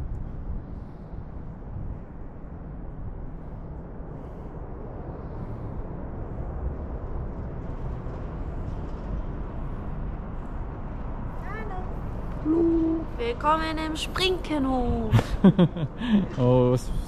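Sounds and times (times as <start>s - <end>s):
city background rumble: 0.0s - 17.0s.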